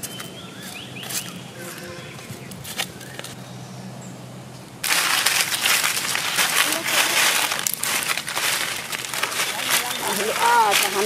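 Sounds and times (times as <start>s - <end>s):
dry leaves crackling and rustling: 0.0s - 3.4s, 4.8s - 11.0s.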